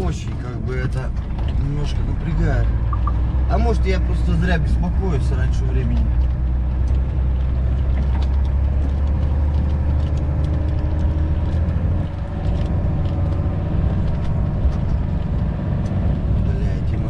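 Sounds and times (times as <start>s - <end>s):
truck diesel engine drone: 0.0s - 17.0s.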